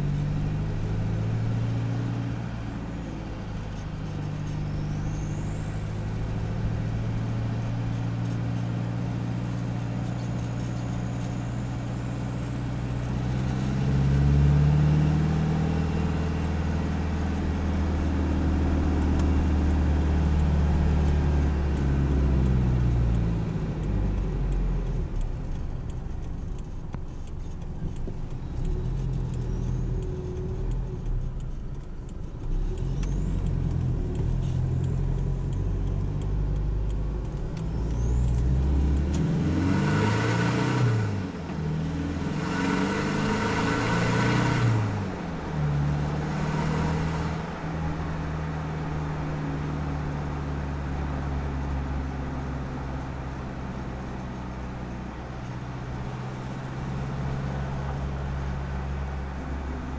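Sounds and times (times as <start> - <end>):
diesel engine and exhaust: 0.0 - 59.9.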